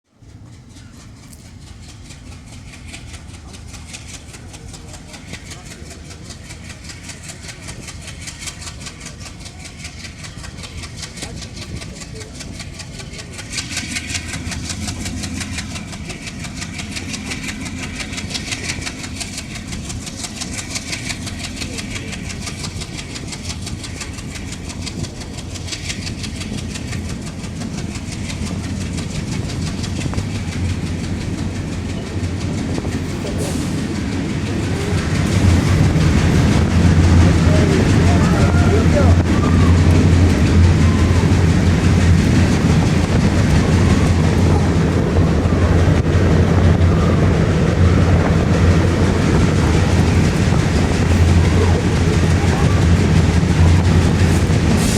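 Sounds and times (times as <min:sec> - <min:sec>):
train wheels clattering on track: 0:00.0 - 0:54.9.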